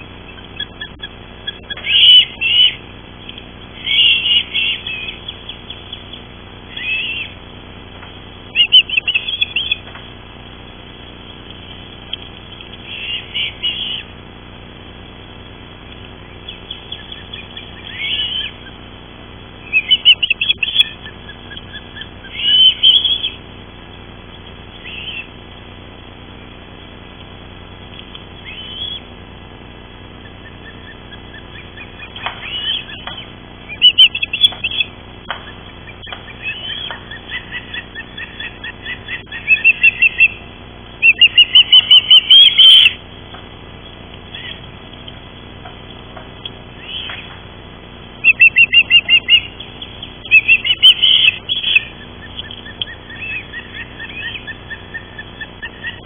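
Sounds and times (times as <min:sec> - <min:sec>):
ospreys chirping: 0:00.0 - 0:14.2, 0:15.4 - 0:25.4, 0:28.0 - 0:29.2, 0:29.8 - 0:56.0.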